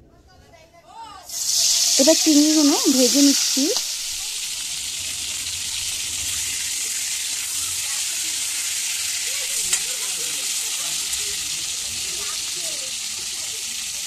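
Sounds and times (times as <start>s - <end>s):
prawns sizzling in oil: 1.2s - 14.0s.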